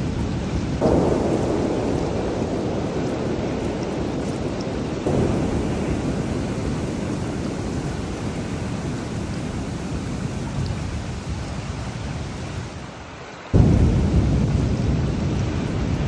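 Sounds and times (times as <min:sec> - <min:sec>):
rolling thunder: 0:00.0 - 0:12.9, 0:13.6 - 0:16.0
steady rain: 0:00.0 - 0:16.0.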